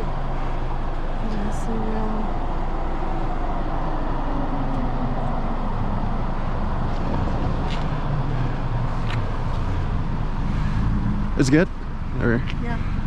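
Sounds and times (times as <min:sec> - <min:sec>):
car idling: 0:00.0 - 0:13.0
road traffic rumble: 0:00.0 - 0:13.0.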